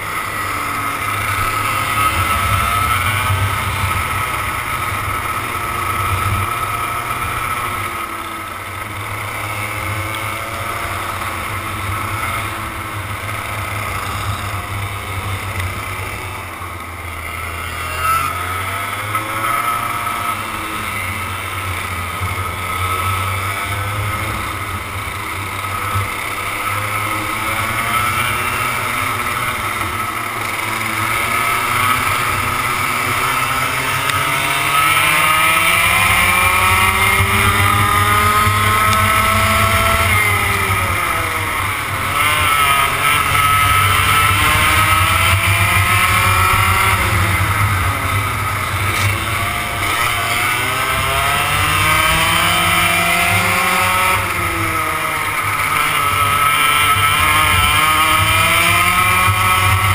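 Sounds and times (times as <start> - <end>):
two-stroke kart engine revving: 0.0 - 59.9.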